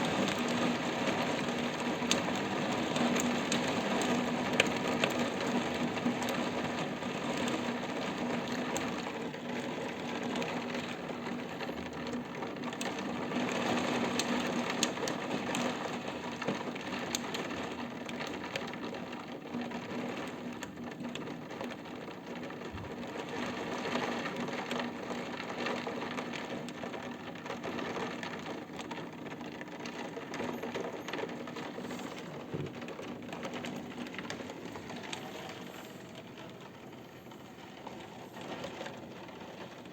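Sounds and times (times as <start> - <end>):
heavy rain: 0.0 - 39.9
raindrops tapping: 0.0 - 39.9.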